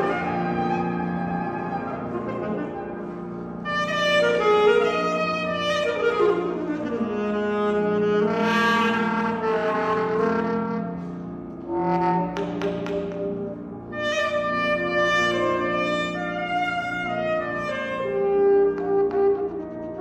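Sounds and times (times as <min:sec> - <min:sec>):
alto saxophone playing: 0:00.0 - 0:20.0
piano accompaniment: 0:00.0 - 0:20.0.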